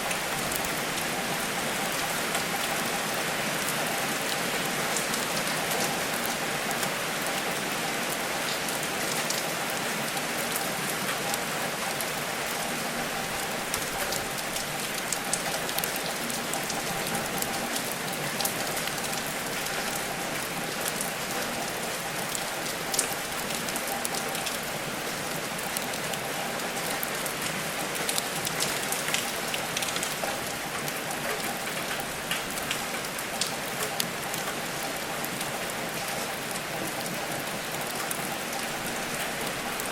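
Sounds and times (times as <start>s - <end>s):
sharp ticks of rain: 0.0s - 39.9s
steady rain hiss: 0.0s - 39.9s.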